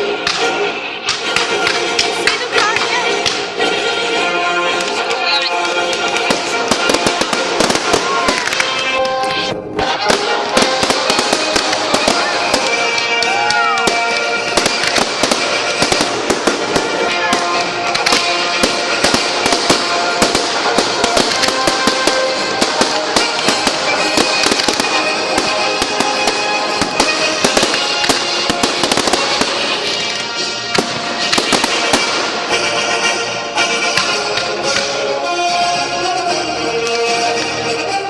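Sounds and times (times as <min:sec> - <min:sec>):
fireworks crackling and banging: 0:00.0 - 0:38.0
music playing: 0:00.0 - 0:38.0.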